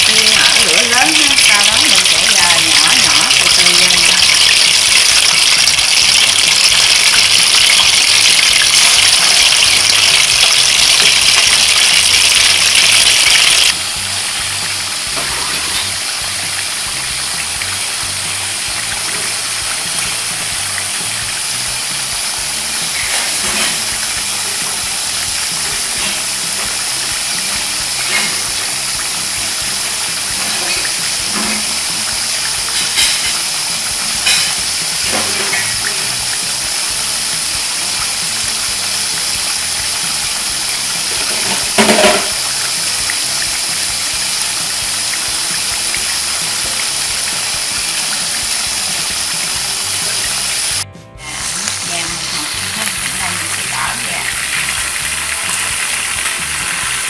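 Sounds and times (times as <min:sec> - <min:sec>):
chicken sizzling in hot oil: 0:00.0 - 0:57.0
oil popping: 0:00.0 - 0:57.0.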